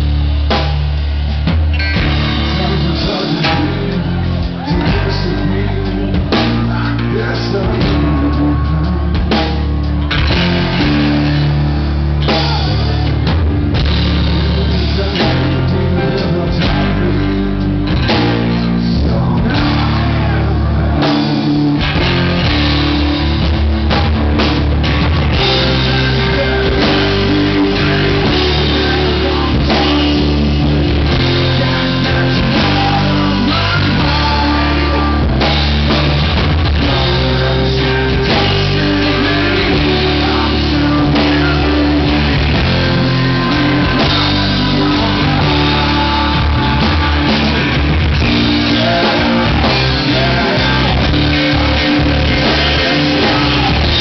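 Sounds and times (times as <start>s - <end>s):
blues-rock band playing: 0.0s - 54.0s
drum kit: 0.0s - 54.0s
electric guitar: 0.0s - 54.0s.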